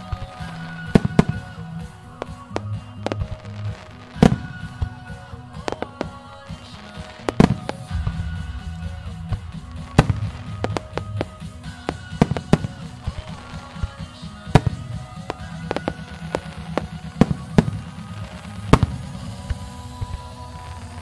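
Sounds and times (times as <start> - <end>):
firework shells bursting: 0.0 - 21.0
music playing: 0.0 - 21.0.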